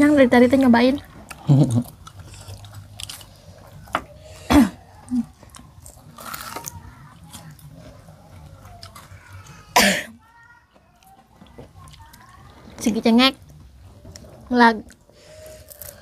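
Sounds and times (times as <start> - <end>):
crunchy food chewing: 1.0 - 9.8, 10.6 - 12.8, 13.4 - 16.0.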